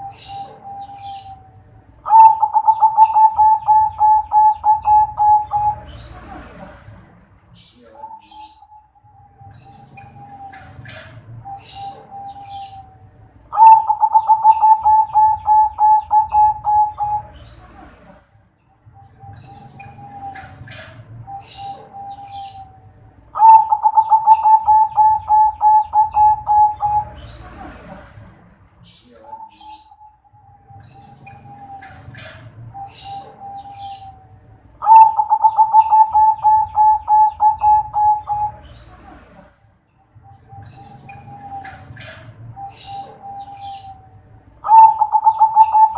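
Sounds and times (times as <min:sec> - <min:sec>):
dove cooing rapidly: 0:00.0 - 0:06.8, 0:07.6 - 0:18.0, 0:19.2 - 0:28.0, 0:28.9 - 0:39.4, 0:40.4 - 0:45.9
small birds chirping: 0:00.0 - 0:45.9.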